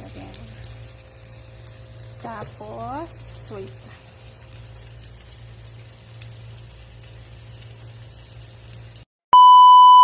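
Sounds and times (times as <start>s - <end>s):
vegetables sizzling in a pan: 0.0s - 9.1s.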